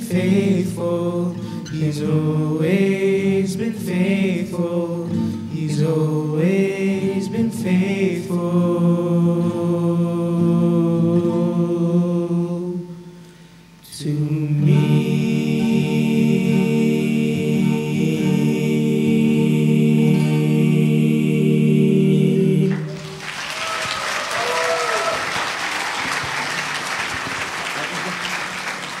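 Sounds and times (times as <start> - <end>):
voices singing gospel: 0.0 - 13.0, 13.8 - 29.0.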